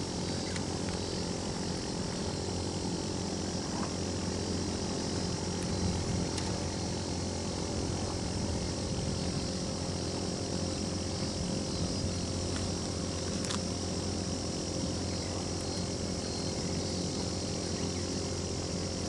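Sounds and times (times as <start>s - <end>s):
steady engine drone: 0.0s - 19.0s.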